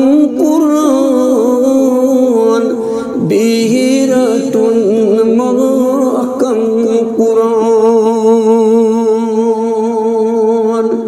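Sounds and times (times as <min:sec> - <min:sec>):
man singing ornamented notes: 0:00.0 - 0:11.0.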